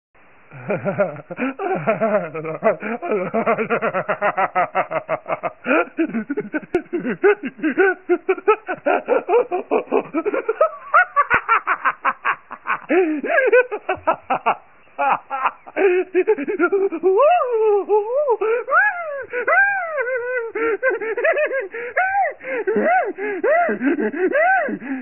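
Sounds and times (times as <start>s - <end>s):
cartoon character laughing: 0.5s - 25.0s.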